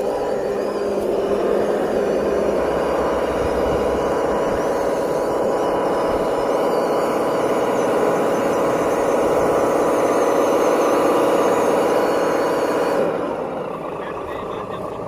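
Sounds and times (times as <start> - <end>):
electric motor with gear whine: 0.0 - 15.0.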